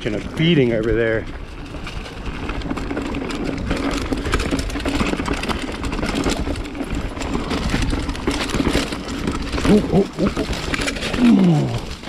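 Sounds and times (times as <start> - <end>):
bike rattling: 0.0 - 12.0
tyres crunching on dirt: 0.0 - 12.0.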